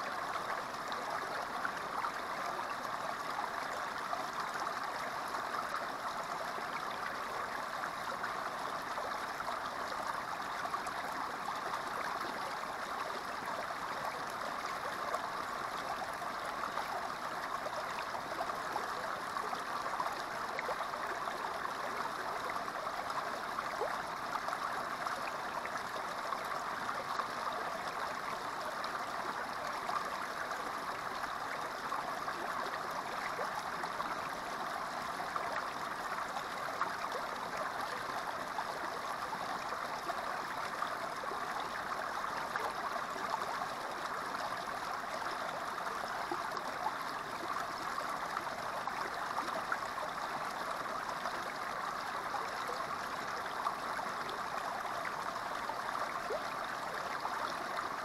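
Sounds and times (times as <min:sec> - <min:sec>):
creek babbling and splashing: 0:00.0 - 0:58.0.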